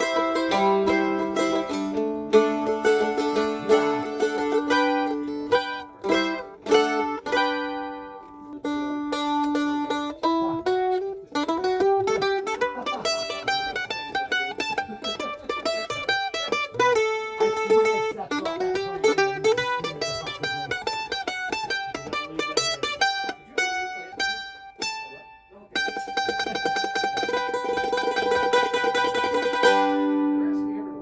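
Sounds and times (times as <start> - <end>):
mandolin played with a pick: 0.0 - 31.0.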